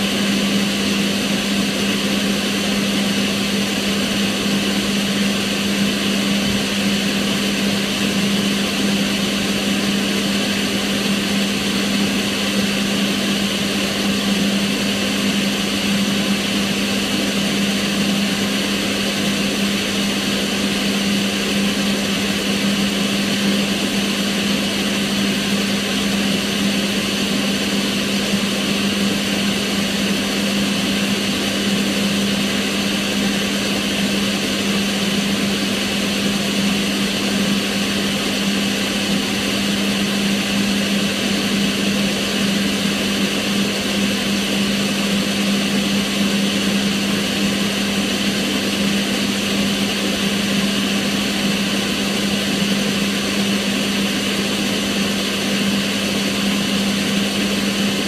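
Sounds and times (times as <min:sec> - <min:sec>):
extractor fan running: 0:00.0 - 0:58.0.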